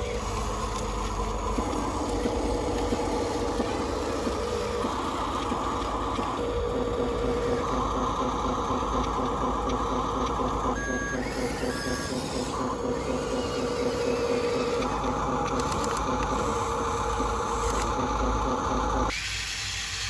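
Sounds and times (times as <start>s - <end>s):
electric motor and gears whirring: 0.0s - 20.0s.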